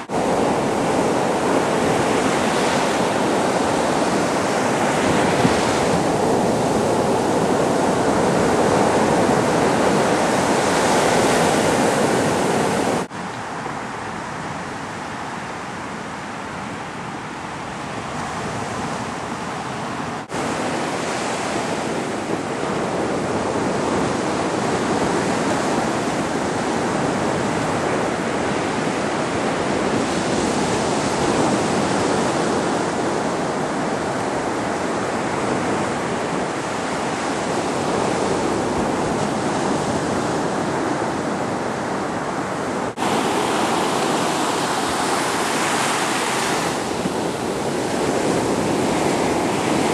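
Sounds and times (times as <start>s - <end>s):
sea waves breaking on beach: 0.0s - 49.9s.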